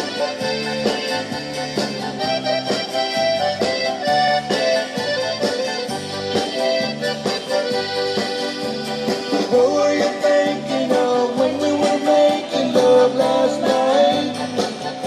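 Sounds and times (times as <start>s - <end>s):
accordion: 0.0s - 15.0s
pulsing bass: 0.0s - 15.0s.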